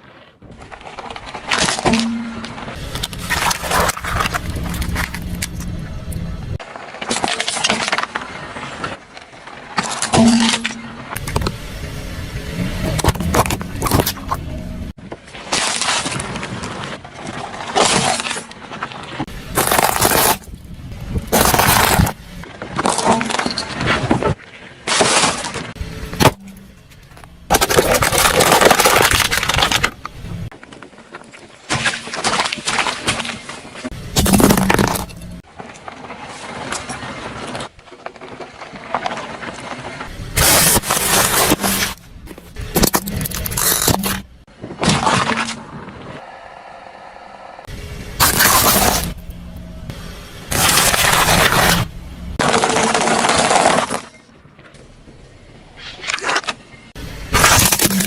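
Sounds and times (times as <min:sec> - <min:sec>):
objects crunching under car tyres: 0:00.0 - 0:46.2, 0:47.6 - 0:58.0.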